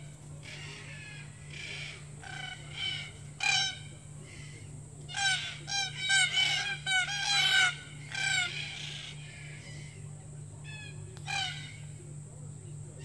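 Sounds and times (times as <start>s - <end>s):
cockatoos calling: 0.0s - 13.0s.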